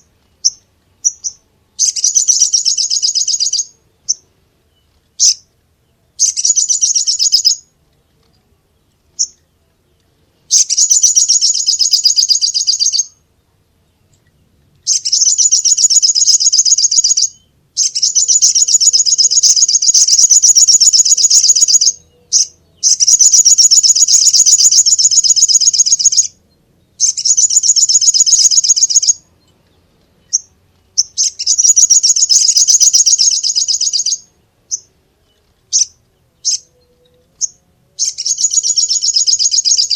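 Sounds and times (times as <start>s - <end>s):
single bird chirps: 0.0s - 5.5s, 6.2s - 7.7s, 10.5s - 13.2s, 14.0s - 26.4s, 27.0s - 39.9s
bird singing trilled phrases: 0.0s - 39.9s.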